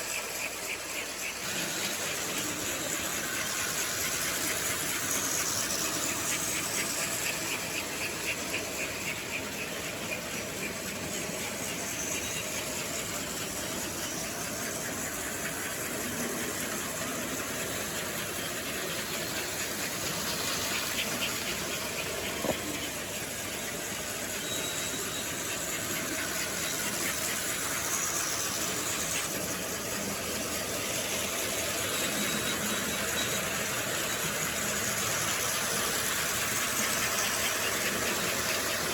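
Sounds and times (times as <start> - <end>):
model train motor hum: 0.0 - 38.9
wheels clicking over rail joints: 0.0 - 38.9.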